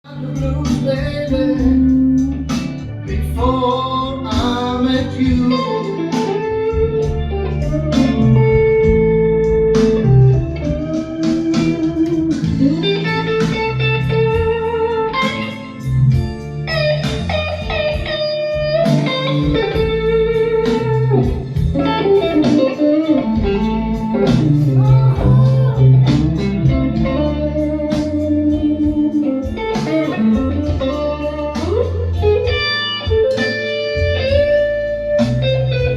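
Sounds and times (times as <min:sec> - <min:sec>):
bass line: 0:00.0 - 0:35.9
electric guitar bending notes: 0:00.0 - 0:35.9.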